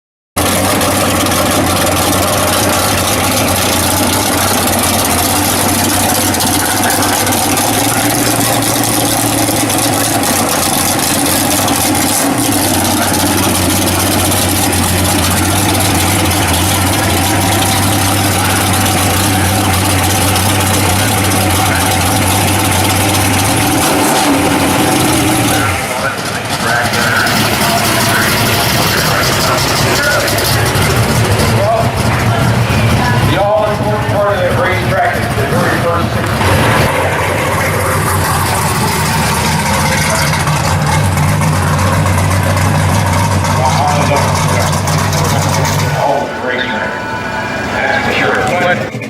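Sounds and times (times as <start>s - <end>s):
car engine idling loudly: 0.4s - 49.0s.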